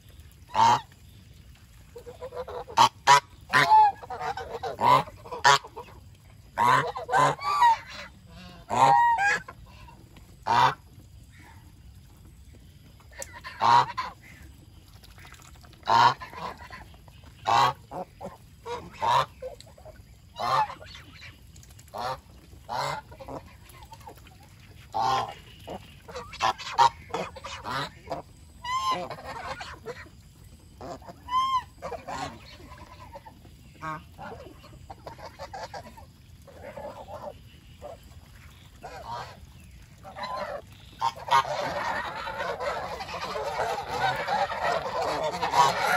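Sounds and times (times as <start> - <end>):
geese honking: 2.0 - 10.8, 13.2 - 14.3, 15.8 - 21.3, 21.9 - 24.2, 24.8 - 30.2, 30.8 - 45.9.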